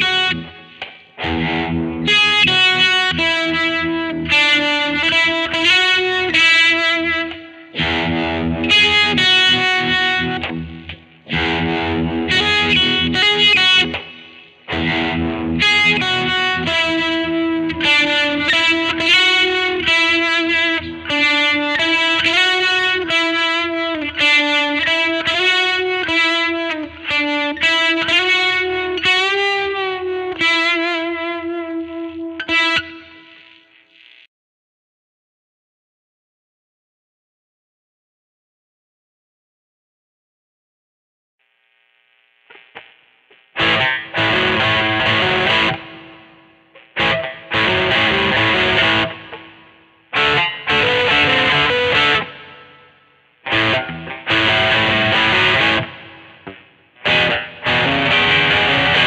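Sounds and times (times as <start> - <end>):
electric guitar melody: 0.0 - 33.7, 43.6 - 59.0
electric guitar strummed chords: 0.0 - 33.7, 43.5 - 59.0.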